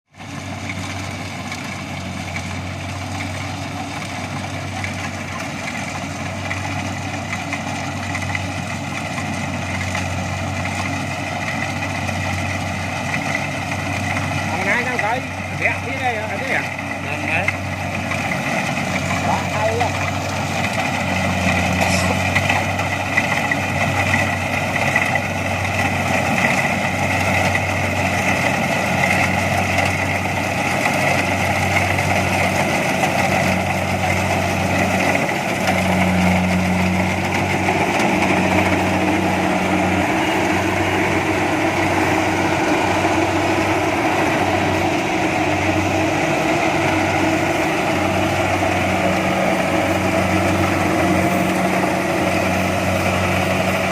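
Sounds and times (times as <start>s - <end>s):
combine harvester running: 0.1s - 53.9s.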